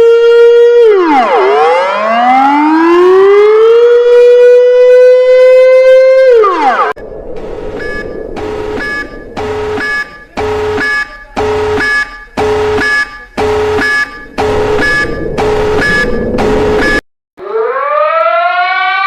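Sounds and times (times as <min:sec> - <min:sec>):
pulsed electronic warning siren: 0:00.0 - 0:19.0.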